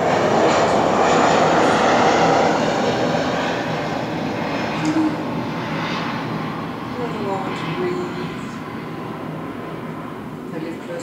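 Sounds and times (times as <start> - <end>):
distant engine rush: 0.0 - 11.0.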